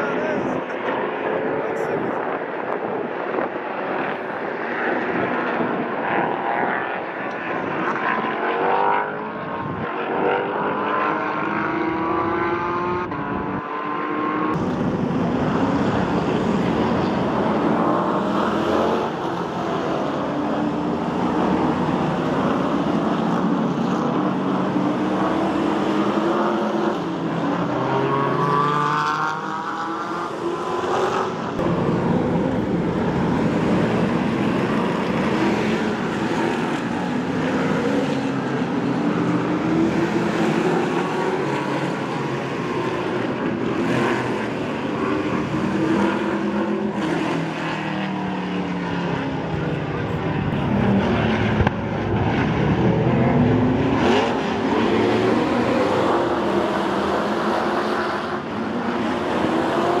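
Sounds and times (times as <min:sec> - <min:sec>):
racing car engines passing: 0:00.0 - 1:00.0.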